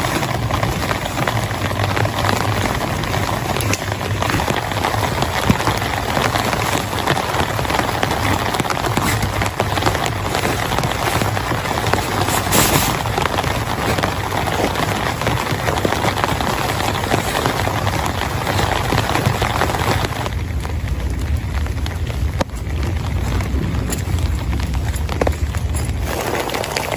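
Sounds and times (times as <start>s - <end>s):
heavy rain pattering: 0.0s - 26.9s.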